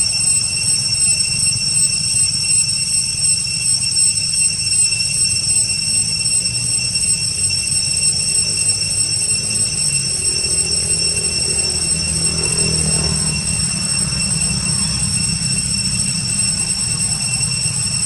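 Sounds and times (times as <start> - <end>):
high-pitched buzzing drone: 0.0 - 18.0.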